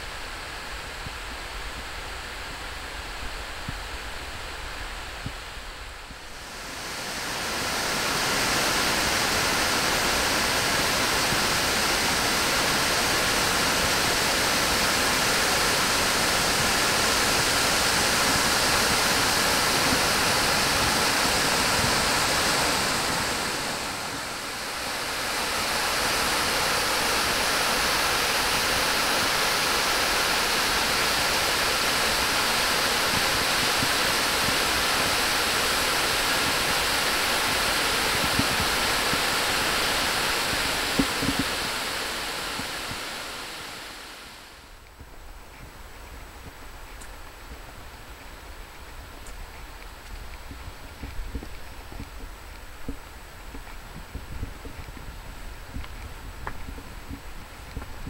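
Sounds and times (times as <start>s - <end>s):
waterfall rushing over rock: 0.0s - 44.8s, 45.6s - 58.0s.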